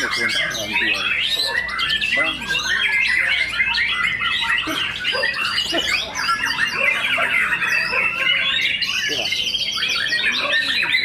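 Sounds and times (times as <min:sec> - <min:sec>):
songbirds singing whistles and chirps: 0:00.0 - 0:11.0.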